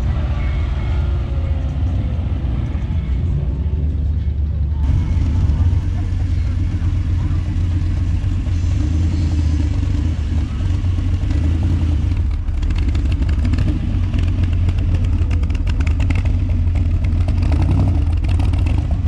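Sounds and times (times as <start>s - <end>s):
vehicle engine idling low: 0.0s - 19.0s
ticking clatter: 2.6s - 19.0s.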